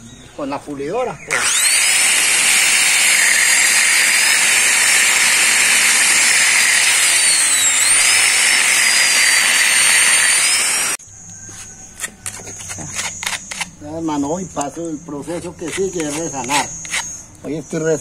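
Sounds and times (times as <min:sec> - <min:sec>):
angle grinder grinding grout: 0:01.3 - 0:13.7, 0:15.2 - 0:17.2.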